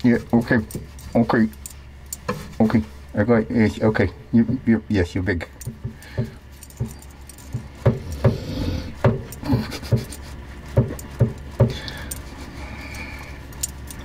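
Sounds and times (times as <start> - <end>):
collar tags jingling: 0.0 - 14.0.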